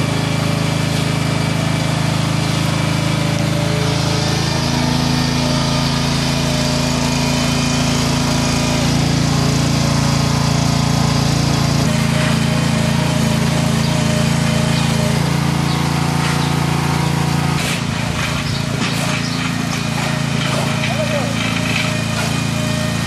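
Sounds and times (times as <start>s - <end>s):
walking tractor engine running: 0.0s - 23.0s.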